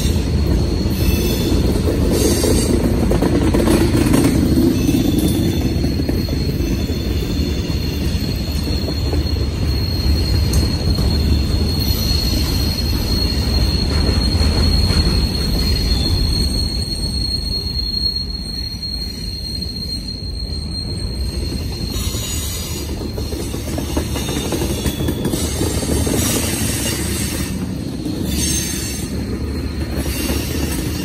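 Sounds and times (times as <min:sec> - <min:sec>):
freight cars rumbling on rails: 0:00.0 - 0:31.0
high-pitched wheel squeal: 0:00.0 - 0:31.0.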